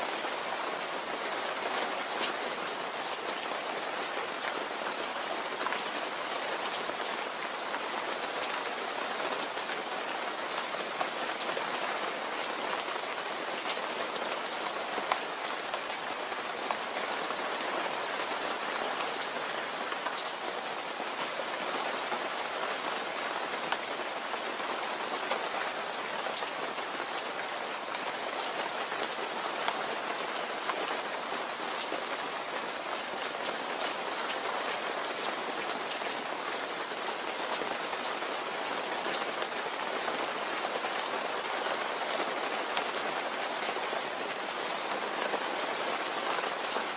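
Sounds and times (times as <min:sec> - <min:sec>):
rain pattering on a surface: 0:00.0 - 0:46.9.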